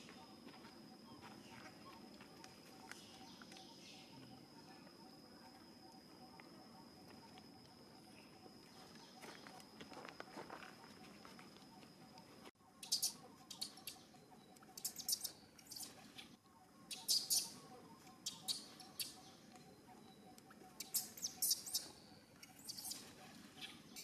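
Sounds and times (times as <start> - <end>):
faint steady background: 0.0 - 24.0
small birds chirping: 0.0 - 24.0.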